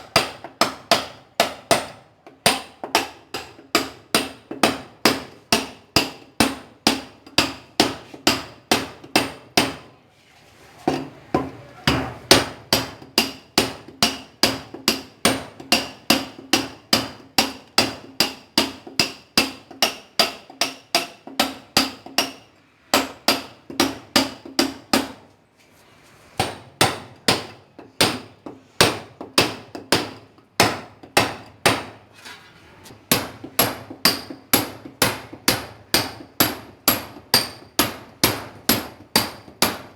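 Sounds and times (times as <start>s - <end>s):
hammer beating on steel chisel: 0.0s - 9.9s, 10.9s - 25.2s, 26.4s - 32.0s, 33.0s - 39.9s.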